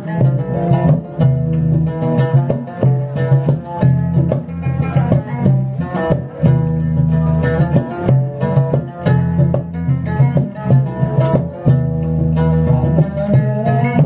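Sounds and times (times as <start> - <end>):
low bass line: 0.0 - 14.0
plucked guitar notes: 0.0 - 14.0.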